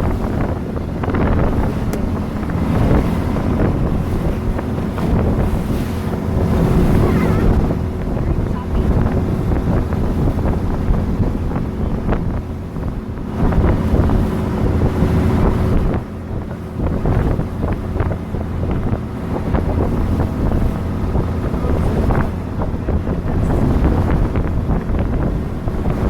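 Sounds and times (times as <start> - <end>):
motorboat engine humming: 0.0 - 26.0
water rushing: 0.0 - 26.0
wind buffeting microphone: 0.0 - 26.0.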